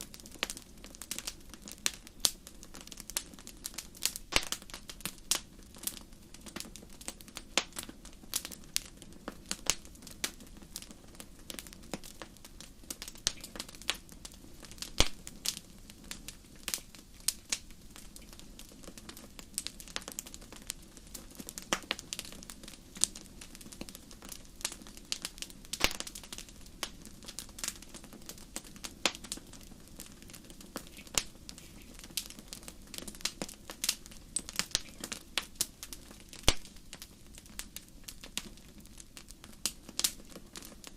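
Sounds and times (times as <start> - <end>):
fire crackling in fireplace: 0.0 - 40.9
soft low hiss: 0.0 - 40.9.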